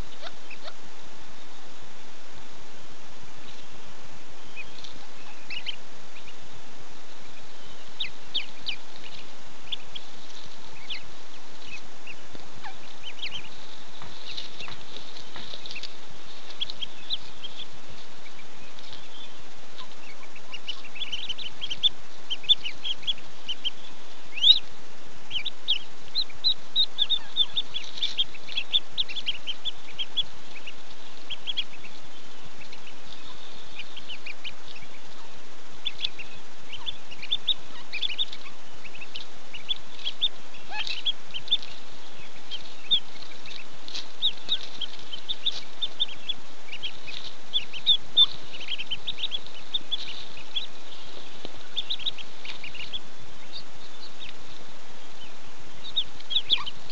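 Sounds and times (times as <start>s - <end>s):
ducklings peeping: 0.0s - 56.9s
steady hiss: 0.0s - 56.9s.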